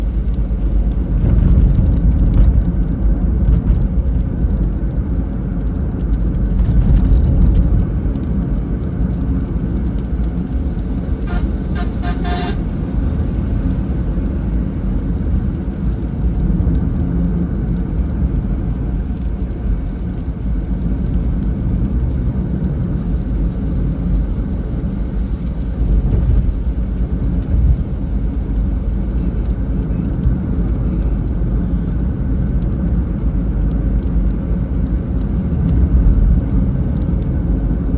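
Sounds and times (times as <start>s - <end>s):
car driving on a wet road: 0.0s - 37.9s.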